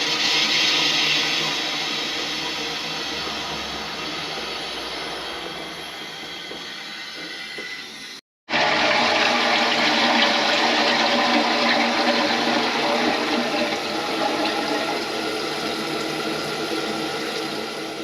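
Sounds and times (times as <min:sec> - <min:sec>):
toilet flushing: 0:00.0 - 0:06.6, 0:08.0 - 0:18.0.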